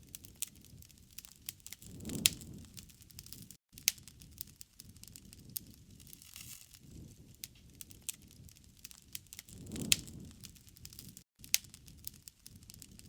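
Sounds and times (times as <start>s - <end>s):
low rumble of flames: 0.0s - 13.0s
wood fire crackling: 0.0s - 13.0s
sharp pops and snaps: 0.1s - 6.6s, 7.4s - 13.0s.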